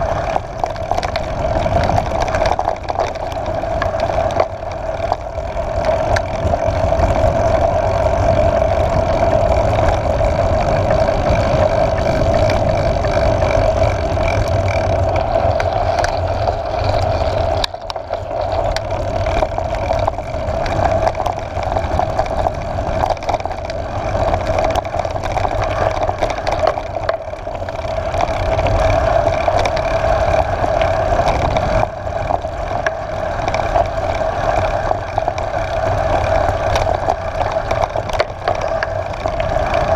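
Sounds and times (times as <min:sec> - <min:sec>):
bike rattling: 0:00.0 - 0:39.9
wind and tyre noise: 0:00.0 - 0:39.9.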